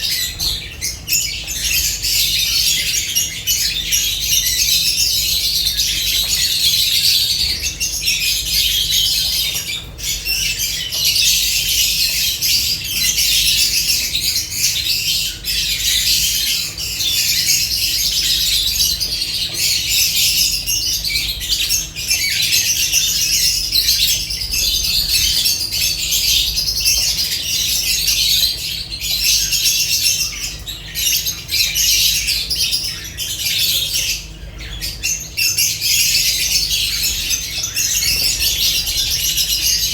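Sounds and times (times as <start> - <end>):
lovebirds chattering and squawking: 0.0 - 39.9.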